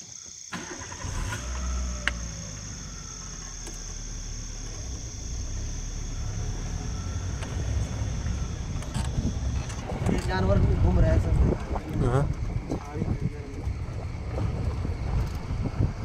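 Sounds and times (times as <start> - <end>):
crickets chirring: 0.0 - 16.0
vehicle engine rumble: 0.3 - 16.0.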